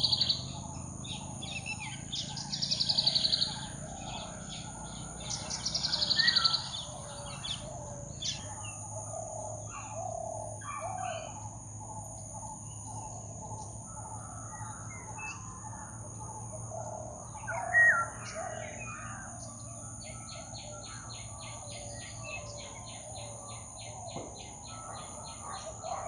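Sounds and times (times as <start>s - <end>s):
birds calling: 0.0s - 26.0s
steady high-pitched whine: 0.0s - 26.0s.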